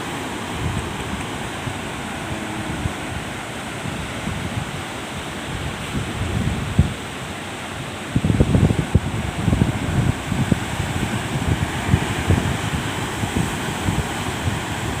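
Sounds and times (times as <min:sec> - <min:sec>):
ocean waves surging: 0:00.0 - 0:15.0
wind buffeting microphone: 0:00.0 - 0:15.0.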